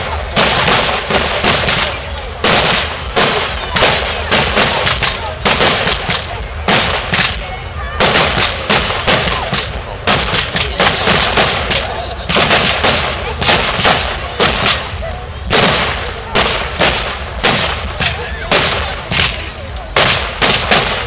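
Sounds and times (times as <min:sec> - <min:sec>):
fireworks banging: 0:00.0 - 0:21.0
fireworks crackling: 0:00.0 - 0:21.0.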